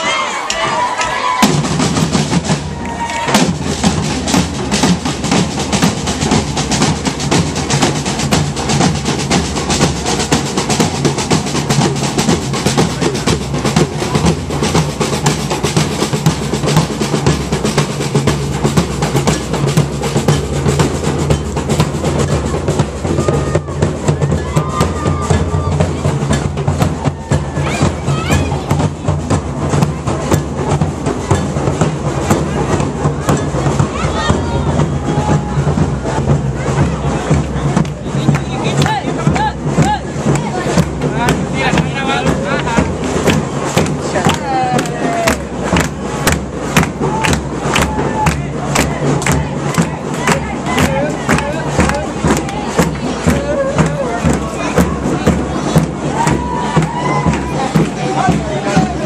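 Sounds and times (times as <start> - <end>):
rapid snare drum strokes: 0.4 - 59.0.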